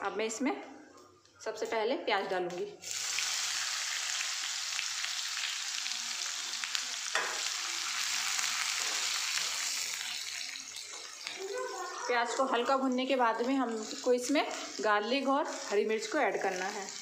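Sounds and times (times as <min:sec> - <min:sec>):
onions sizzling in hot oil: 0:02.8 - 0:17.0.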